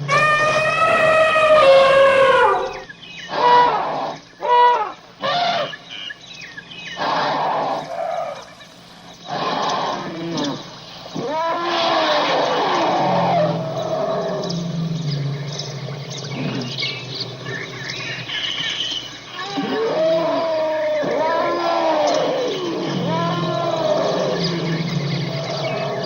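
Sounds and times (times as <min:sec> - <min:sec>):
animal calls rising and falling: 0:00.0 - 0:05.8, 0:07.0 - 0:26.0.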